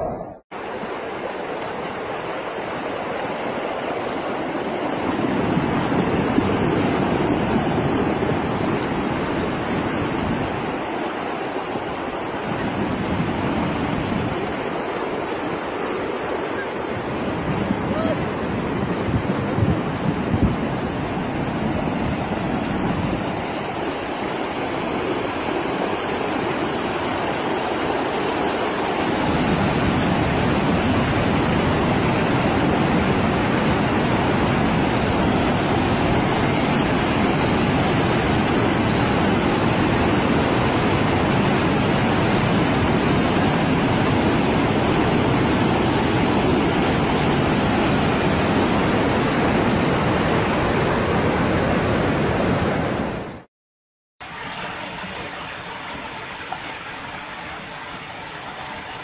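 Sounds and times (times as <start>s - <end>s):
flood water rushing: 0.0s - 53.5s, 54.2s - 59.0s.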